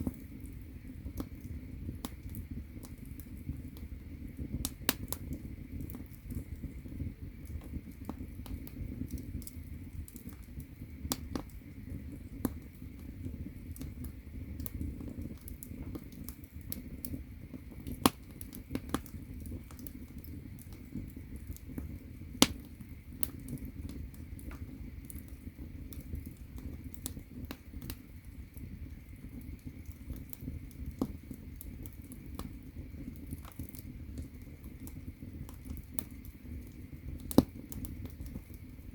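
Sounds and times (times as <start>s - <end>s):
fire crackling and snapping: 0.0s - 38.9s
loud pops of fire: 0.0s - 38.9s
low rumble of flame: 0.0s - 38.9s.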